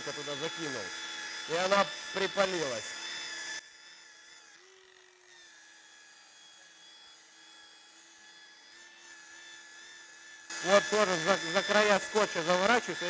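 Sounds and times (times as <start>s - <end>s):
electric car polisher whine: 0.0s - 13.0s.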